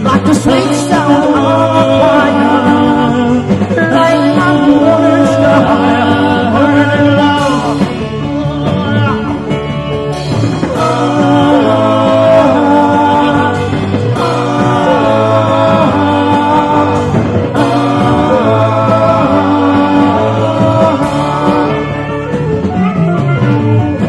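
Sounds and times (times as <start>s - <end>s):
bass guitar: 0.0s - 24.0s
electric guitar: 0.0s - 24.0s
person singing: 0.0s - 24.0s.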